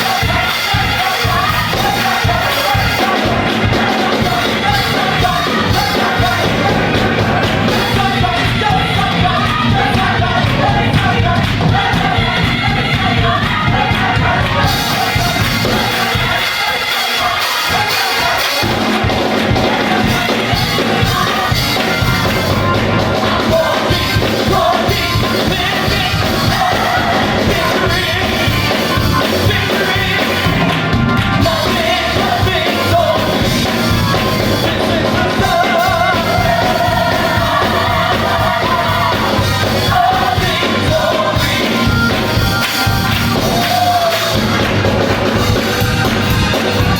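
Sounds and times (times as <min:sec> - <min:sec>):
band playing: 0:00.0 - 0:46.9
gospel choir singing: 0:00.0 - 0:46.9.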